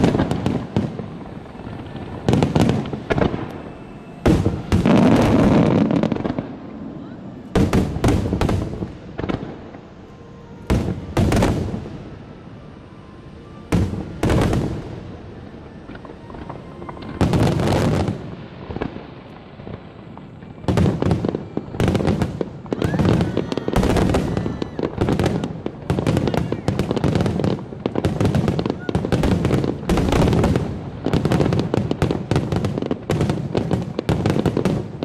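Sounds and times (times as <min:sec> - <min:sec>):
rapid volley of firework bangs: 0:00.0 - 0:09.8, 0:10.4 - 0:12.2, 0:13.7 - 0:15.2, 0:15.8 - 0:35.0
firework booms with crackling tails: 0:00.0 - 0:12.4, 0:13.5 - 0:35.0.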